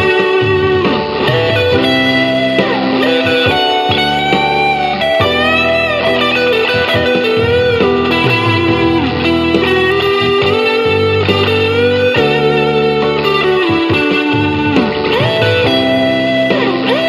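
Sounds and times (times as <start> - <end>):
bass and drum backing: 0.0 - 17.0
electric guitar lead melody: 0.0 - 17.0.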